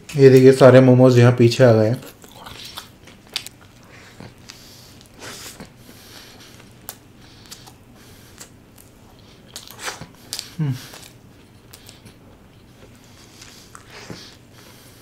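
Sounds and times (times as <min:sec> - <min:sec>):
mouth-closed chewing: 0:02.0 - 0:15.0
biting into a burger: 0:02.1 - 0:14.9.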